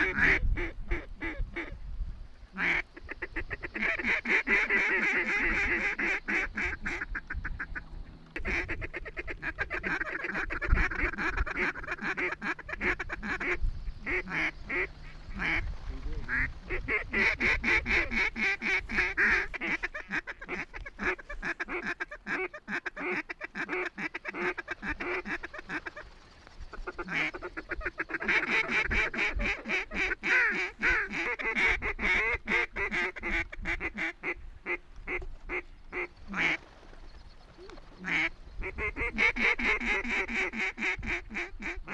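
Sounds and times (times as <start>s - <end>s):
ducks and geese calling: 0.0s - 1.8s, 2.5s - 41.9s.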